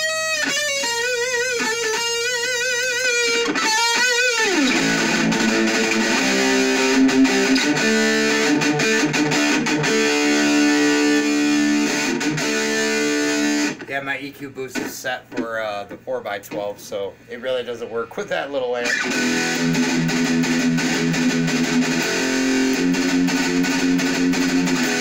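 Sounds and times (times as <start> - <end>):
distorted electric guitar: 0.0 - 14.0, 18.7 - 25.0.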